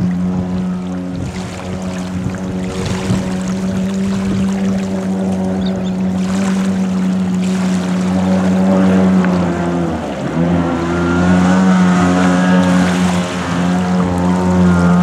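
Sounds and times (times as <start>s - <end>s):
two-stroke engine running hard: 0.0s - 15.0s
water jet and spray rushing: 1.0s - 15.0s.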